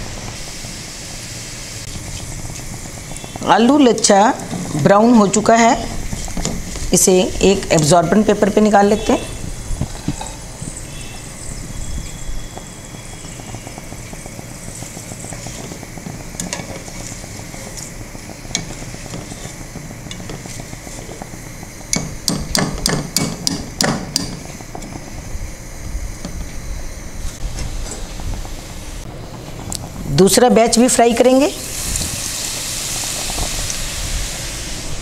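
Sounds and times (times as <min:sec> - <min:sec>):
hot oil sizzling: 0:00.0 - 0:35.0.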